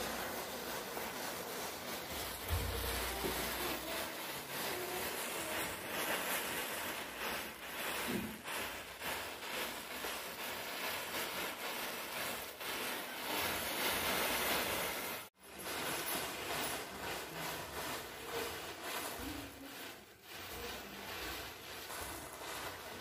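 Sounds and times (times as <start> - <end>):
matches crackling and flaring: 0.0 - 23.0.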